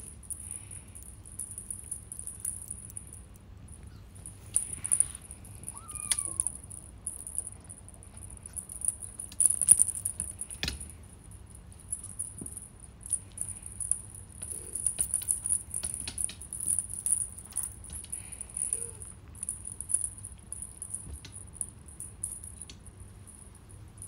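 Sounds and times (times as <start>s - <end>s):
beaded toy rattling and jingling: 0.0s - 24.0s.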